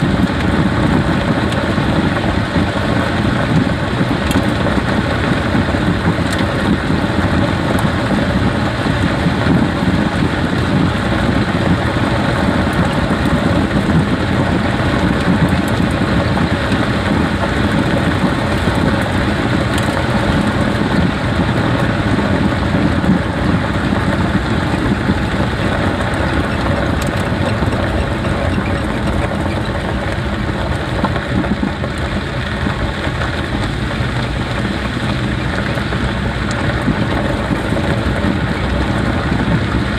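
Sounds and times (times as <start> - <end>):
car driving road noise: 0.0 - 39.9.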